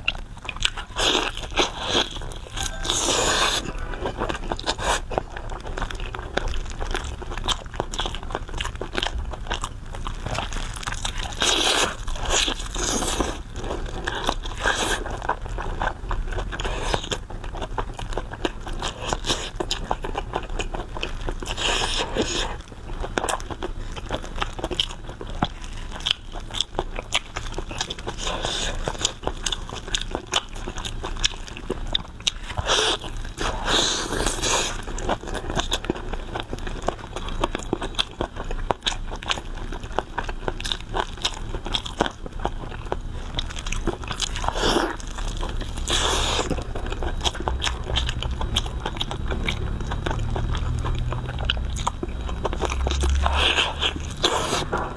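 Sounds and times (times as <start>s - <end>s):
person chewing with mouth clicks: 0.0s - 54.9s.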